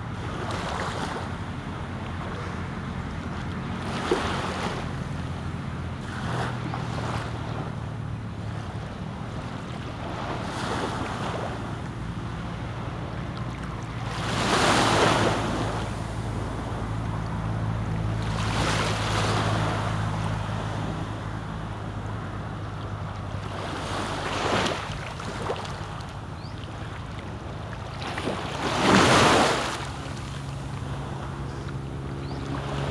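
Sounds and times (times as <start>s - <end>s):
small waves washing ashore: 0.0s - 32.9s.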